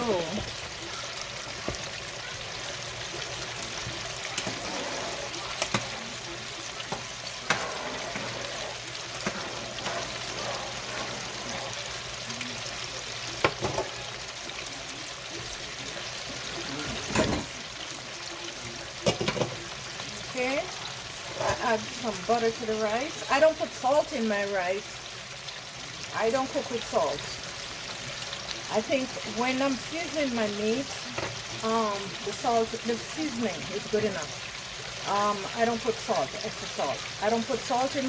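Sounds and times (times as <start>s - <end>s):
deep frying sizzle: 0.0s - 38.0s.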